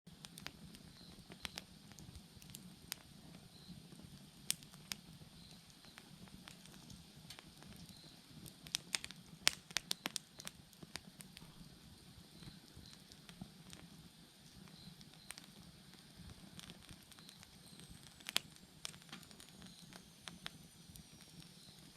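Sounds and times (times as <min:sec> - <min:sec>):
bonfire crackling and popping: 0:00.1 - 0:21.9
faint insect chirps: 0:00.8 - 0:01.7, 0:02.5 - 0:09.1, 0:09.7 - 0:10.6, 0:11.4 - 0:13.8, 0:14.6 - 0:21.9.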